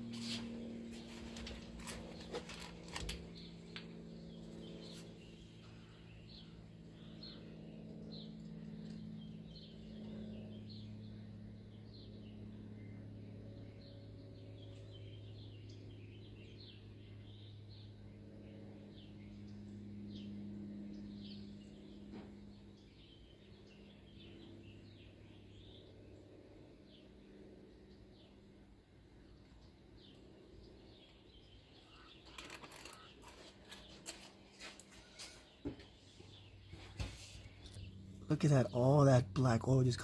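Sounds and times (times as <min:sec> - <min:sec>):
small birds chirping: 0:00.0 - 0:40.0
steady low hum: 0:00.0 - 0:40.0.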